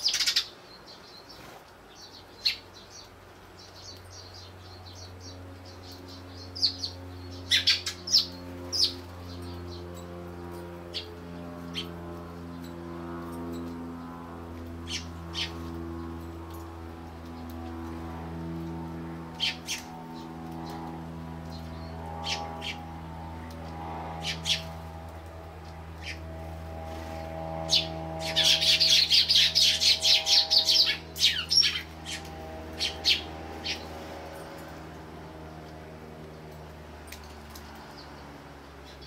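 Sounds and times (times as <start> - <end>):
sparrows chirping: 0.0 - 39.0
steady low hum: 0.0 - 39.0.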